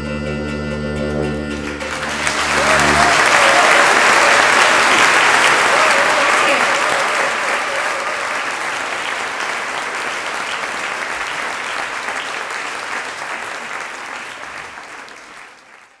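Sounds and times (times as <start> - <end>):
audience applauding: 1.5 - 16.0.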